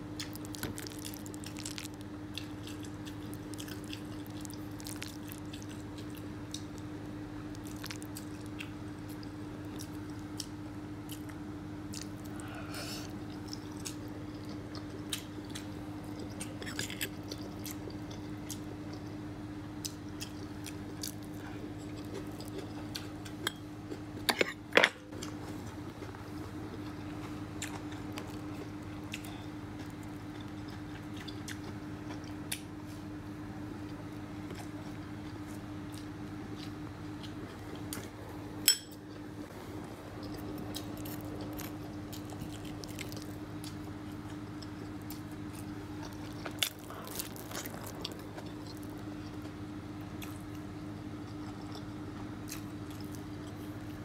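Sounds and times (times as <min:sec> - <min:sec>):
steady low hum: 0:00.0 - 0:54.0
chewing and biting food: 0:00.1 - 0:24.3, 0:25.1 - 0:33.1, 0:33.8 - 0:38.2, 0:40.0 - 0:54.0.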